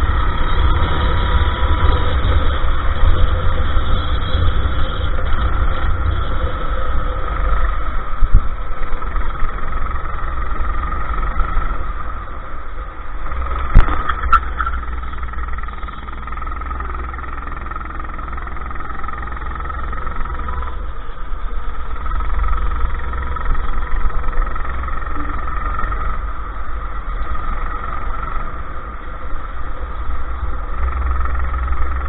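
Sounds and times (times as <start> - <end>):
go-kart engine running: 0.0 - 32.0.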